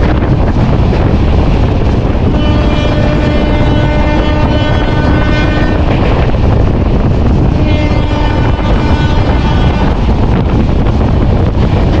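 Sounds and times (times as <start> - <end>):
train rumbling at speed: 0.0 - 12.0
wind buffeting microphone: 0.0 - 12.0.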